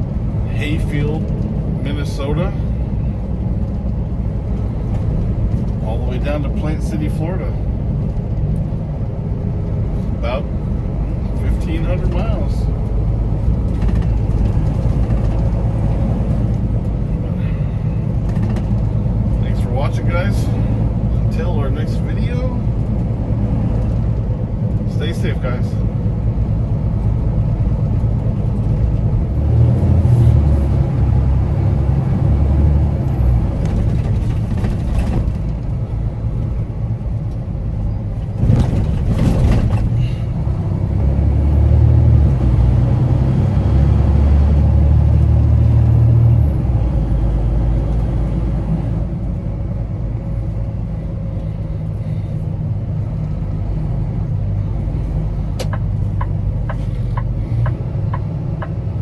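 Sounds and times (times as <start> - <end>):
truck diesel engine drone: 0.0 - 59.0.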